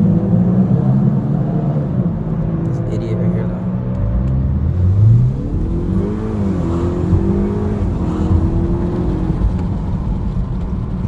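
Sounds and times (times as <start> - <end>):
car exhaust accelerating: 0.0 - 11.0.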